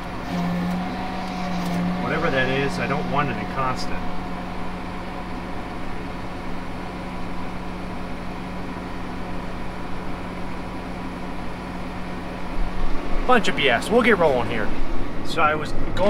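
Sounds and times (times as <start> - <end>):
tractor engine humming: 0.0 - 16.0.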